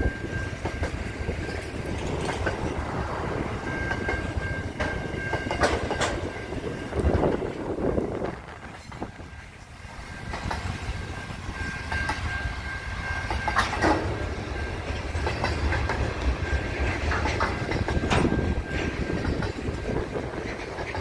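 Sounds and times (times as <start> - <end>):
freight train rumbling past: 0.0 - 21.0
wheels clacking over rail joints: 0.0 - 21.0.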